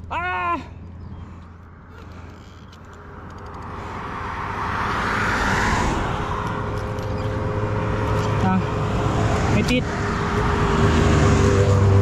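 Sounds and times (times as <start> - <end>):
vehicle passing: 0.8 - 12.0.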